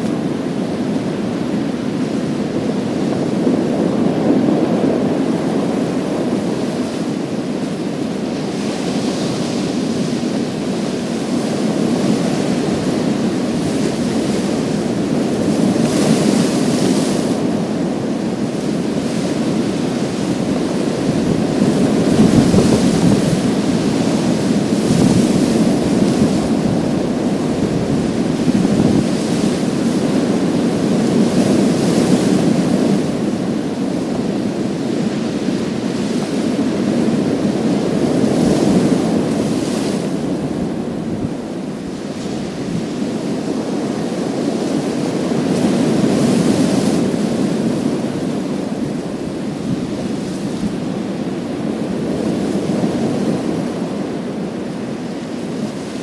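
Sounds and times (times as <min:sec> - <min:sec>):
waves on pebble beach: 0:00.0 - 0:56.0.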